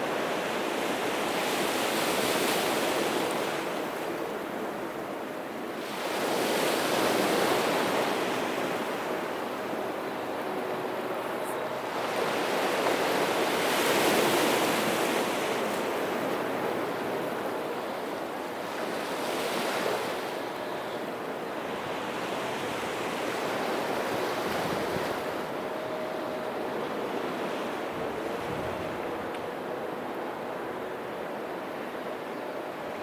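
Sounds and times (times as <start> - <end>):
waves washing onto shore: 0.0 - 33.0.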